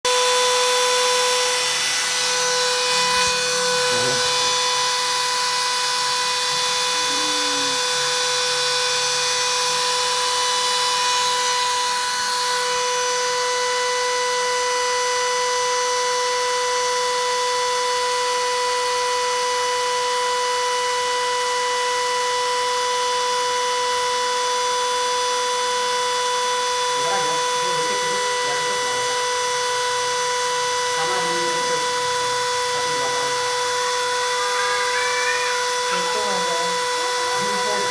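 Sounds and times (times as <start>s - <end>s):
router spindle whine: 0.1s - 37.9s.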